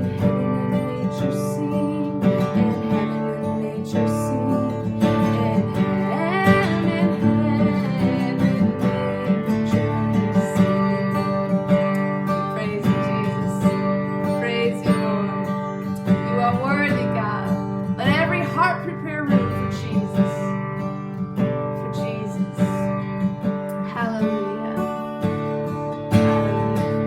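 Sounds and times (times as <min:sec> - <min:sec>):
acoustic guitar: 0:00.0 - 0:27.0.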